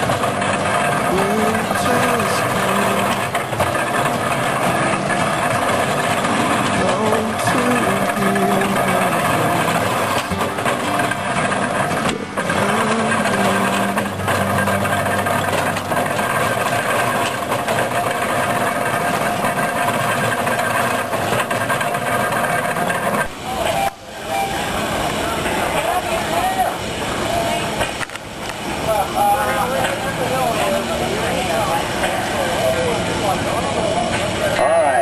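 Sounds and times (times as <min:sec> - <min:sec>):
held tones: 0:00.0 - 0:34.7
engine running: 0:00.0 - 0:35.0.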